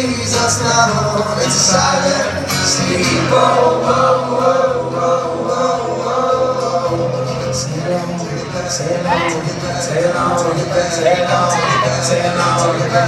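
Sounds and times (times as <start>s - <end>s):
voices singing together: 0.0s - 13.0s.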